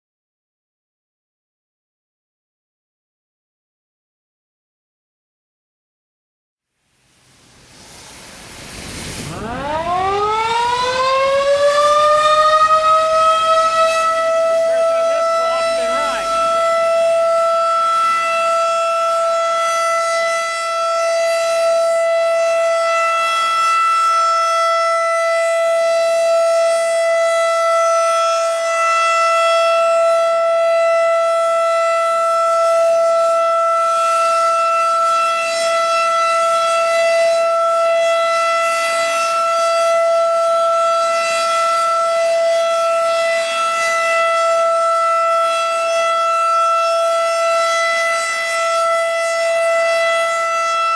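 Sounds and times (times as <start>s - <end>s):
warning siren steady tone: 9.2s - 50.9s.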